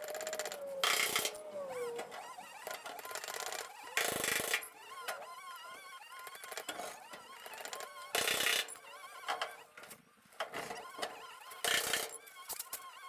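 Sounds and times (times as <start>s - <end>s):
hydraulic jack rapid clicks: 0.0s - 12.9s
faint wavering squeaks: 0.0s - 13.0s.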